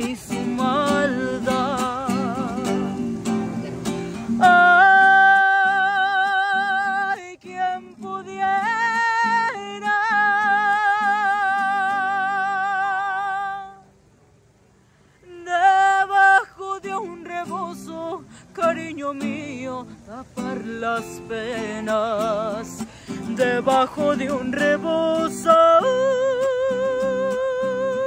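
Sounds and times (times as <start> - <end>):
strummed acoustic guitar: 0.0 - 13.9, 15.2 - 28.0
woman singing with vibrato: 0.0 - 14.0, 15.2 - 28.0.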